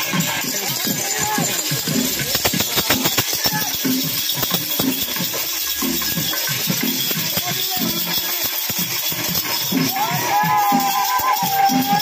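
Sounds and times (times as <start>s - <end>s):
rapid metallic jingling and rattling: 0.0s - 12.0s
voices: 0.0s - 12.0s.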